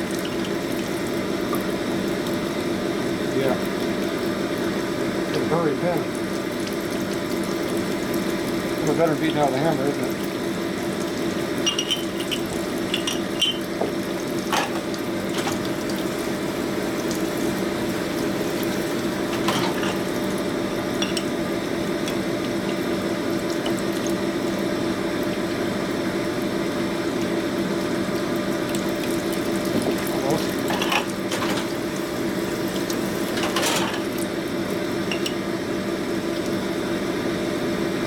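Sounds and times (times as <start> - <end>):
pump running: 0.0 - 38.0.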